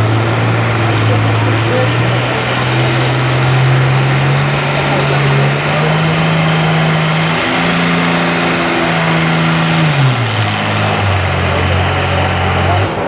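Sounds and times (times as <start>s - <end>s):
tractor engine running hard: 0.0s - 13.0s.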